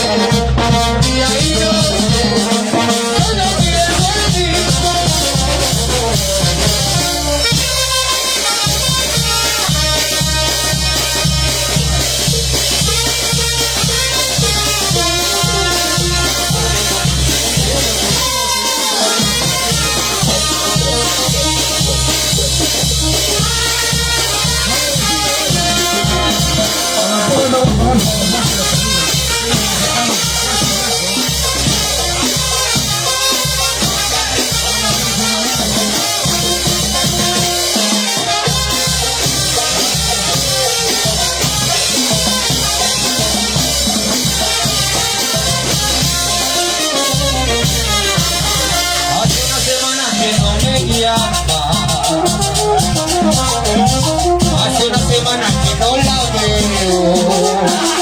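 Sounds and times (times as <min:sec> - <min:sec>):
band music: 0:00.0 - 0:58.0.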